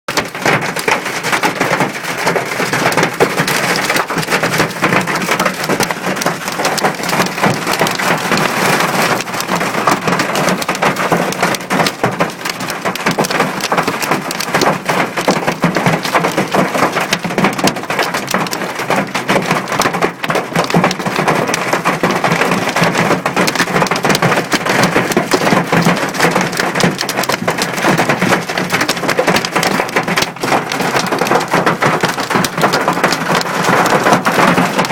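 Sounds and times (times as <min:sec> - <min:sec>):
hail clattering on car roof: 0:00.1 - 0:34.9.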